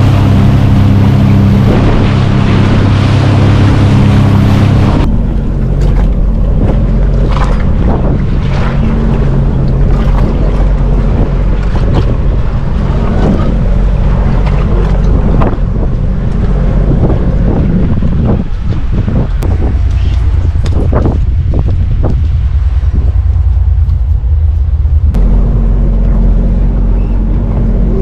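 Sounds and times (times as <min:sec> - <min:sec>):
jet ski engine running: 0:00.0 - 0:28.0
water splashing: 0:00.0 - 0:28.0
wind on microphone: 0:00.0 - 0:28.0.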